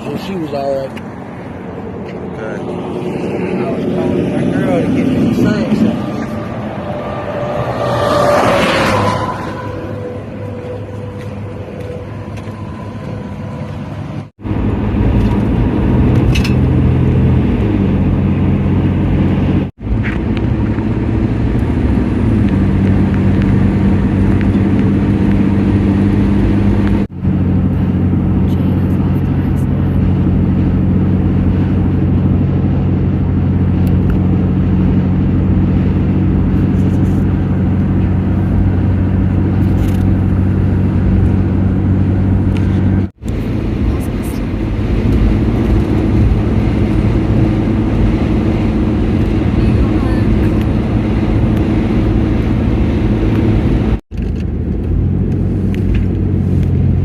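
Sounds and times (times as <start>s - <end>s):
road noise: 0.0s - 57.0s
vehicle engine: 0.0s - 57.0s.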